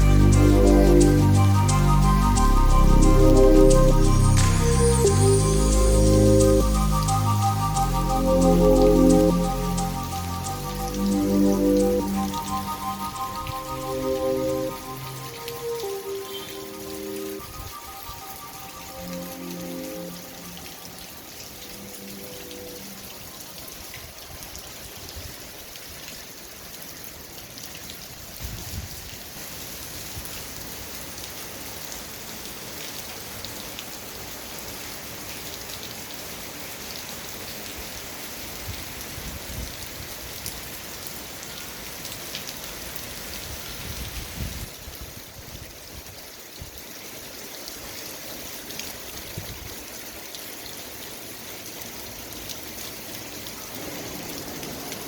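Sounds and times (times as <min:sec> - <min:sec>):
rain drops ticking on a surface: 0:00.0 - 0:55.0.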